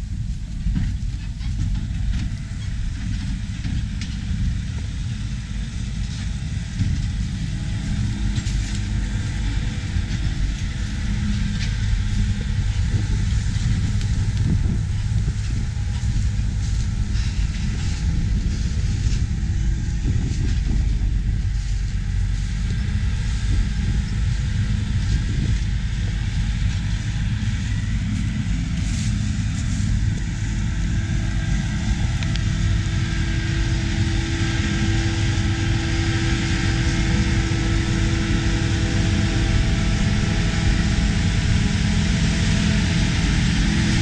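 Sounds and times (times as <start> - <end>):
heavy farm machinery drone: 0.0 - 44.0
steady hum: 0.0 - 44.0.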